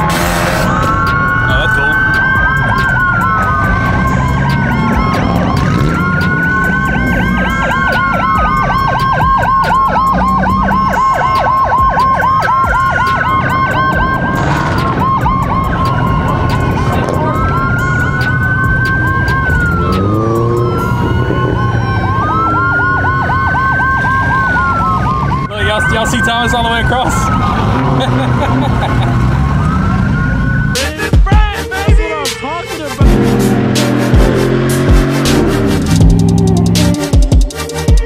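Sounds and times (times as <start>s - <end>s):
vehicle engine rumbling: 0.0s - 31.5s, 32.4s - 37.0s
police siren yelp: 0.0s - 32.2s
police siren wail: 0.0s - 38.0s.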